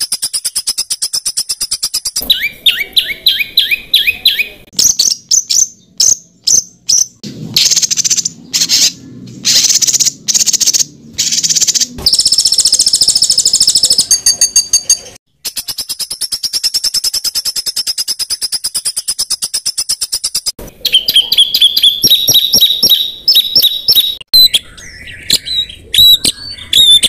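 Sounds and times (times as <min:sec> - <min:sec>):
songbirds calling: 0:00.0 - 0:27.0.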